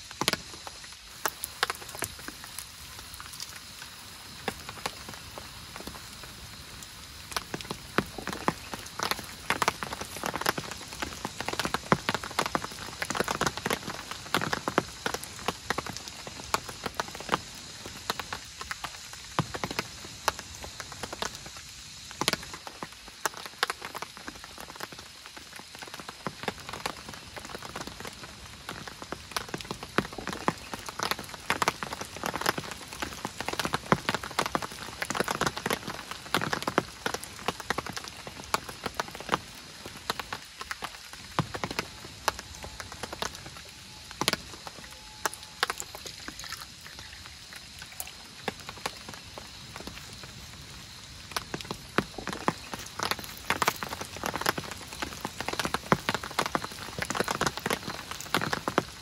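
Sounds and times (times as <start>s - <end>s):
raindrops tapping close by: 0.0s - 59.0s
steady rain: 0.0s - 59.0s.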